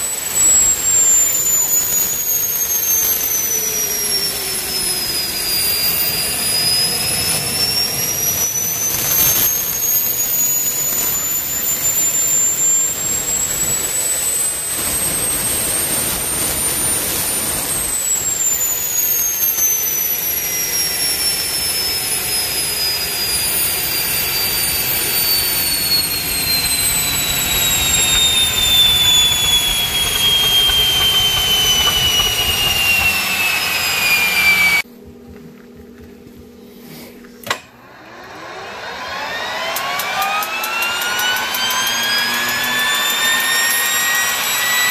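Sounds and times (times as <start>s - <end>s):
gas turbine jet rush and whine: 0.0s - 35.2s, 36.5s - 44.9s.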